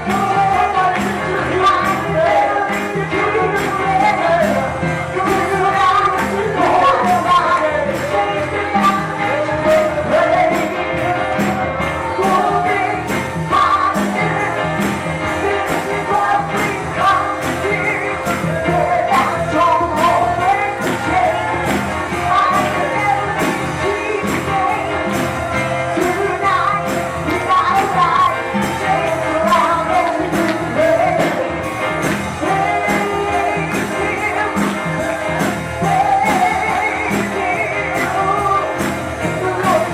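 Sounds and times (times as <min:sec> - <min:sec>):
upbeat worship music: 0:00.0 - 0:39.9
voices singing: 0:00.0 - 0:39.9.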